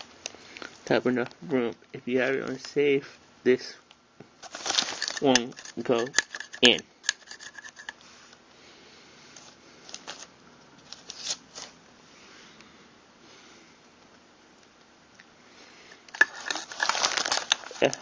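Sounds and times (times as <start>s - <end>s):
low background hiss: 0.0s - 18.0s.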